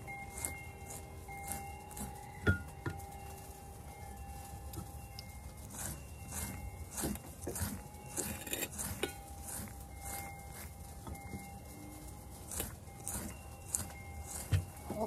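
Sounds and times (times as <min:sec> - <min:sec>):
basting brush dabbing: 0:00.0 - 0:15.0.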